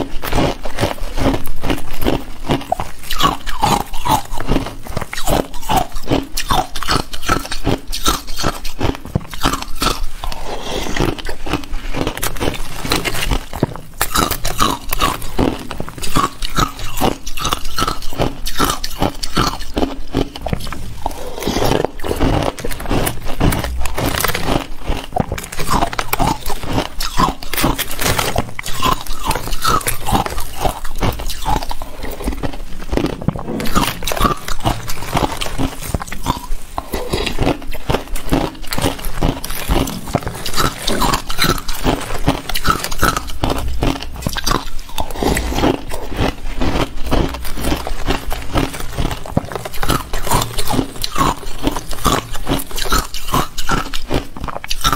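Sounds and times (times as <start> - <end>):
ice crunching while chewed: 0.0 - 54.9.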